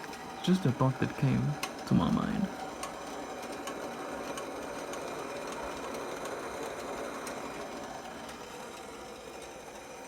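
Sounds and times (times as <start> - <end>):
water boiling: 0.0 - 10.0.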